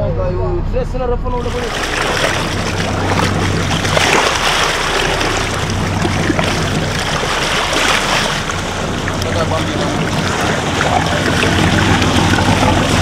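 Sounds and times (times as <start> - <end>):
boat engine running: 0.0 - 13.0
water splashing along hull: 1.3 - 13.0.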